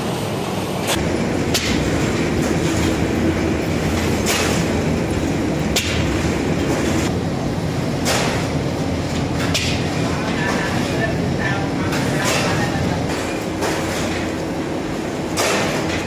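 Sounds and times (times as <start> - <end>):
bread machine rumble and clatter: 0.0 - 16.0.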